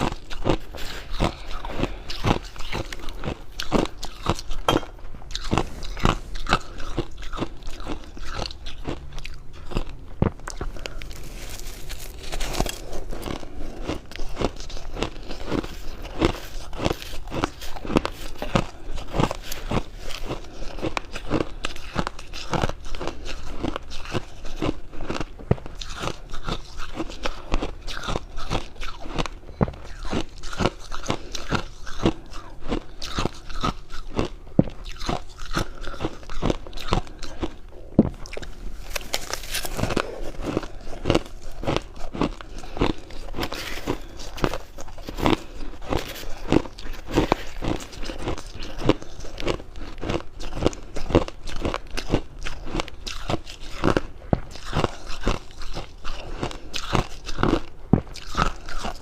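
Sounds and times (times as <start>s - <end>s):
chewing frost crunches: 0.0s - 59.0s.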